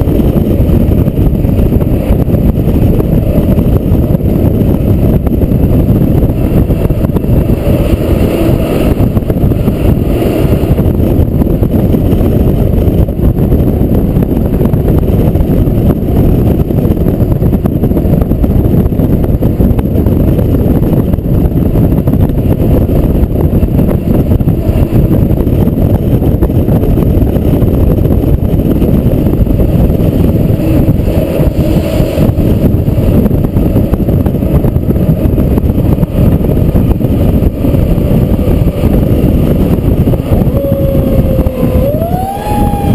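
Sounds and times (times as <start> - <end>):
truck engine and road noise: 0.0 - 42.9.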